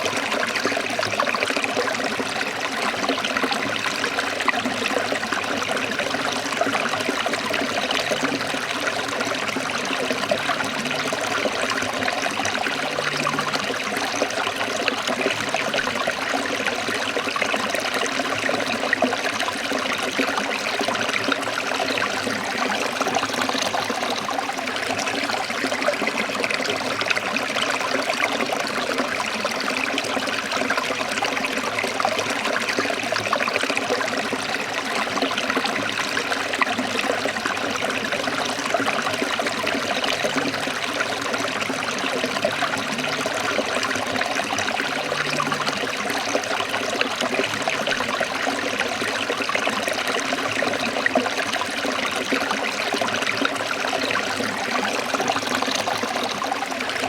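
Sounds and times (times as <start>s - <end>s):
stream trickling and splashing: 0.0s - 57.0s.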